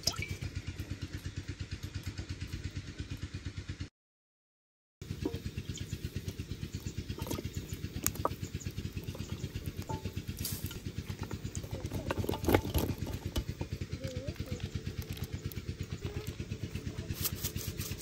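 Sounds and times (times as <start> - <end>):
small engine idling: 0.1 - 3.9, 5.0 - 18.0.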